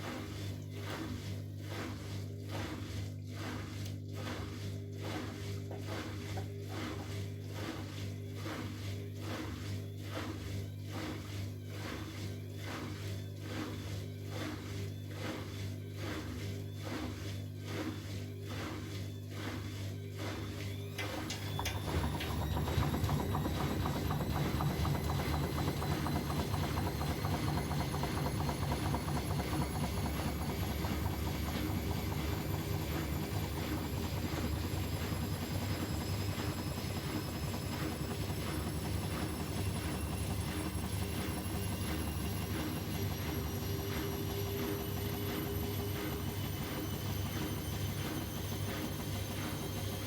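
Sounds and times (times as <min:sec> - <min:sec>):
washing machine spinning: 0:00.0 - 0:50.0.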